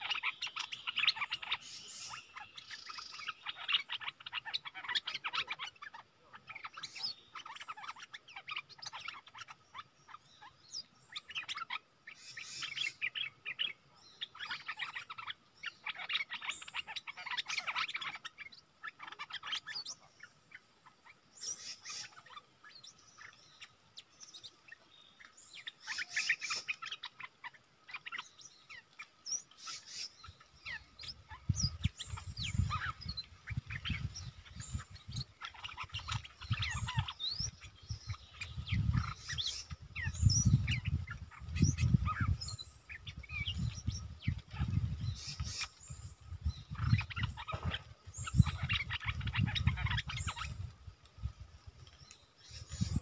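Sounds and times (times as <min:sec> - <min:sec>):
bulbuls chirping and twittering: 0:00.0 - 0:53.0.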